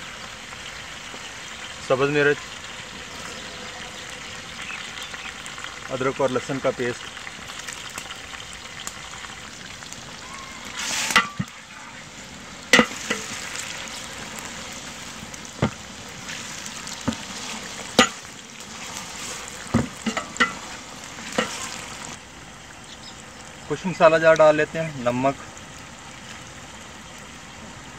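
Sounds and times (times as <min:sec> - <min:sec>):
vegetables sizzling in oil: 0:00.0 - 0:27.9.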